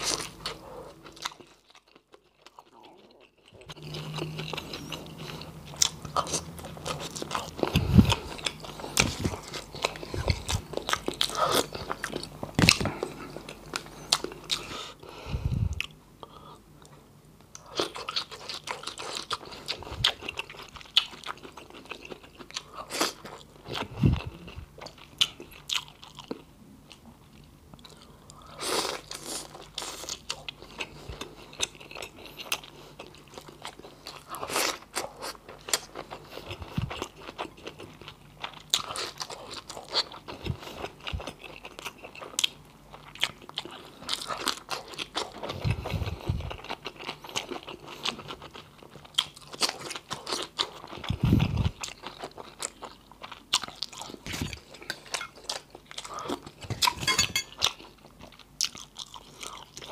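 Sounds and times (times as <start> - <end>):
man chewing food: 0.0 - 59.9.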